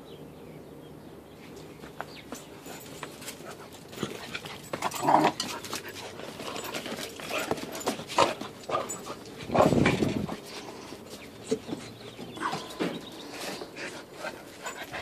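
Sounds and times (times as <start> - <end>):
dogs scuffling and mouthing: 1.4 - 15.0
dogs panting: 2.2 - 15.0.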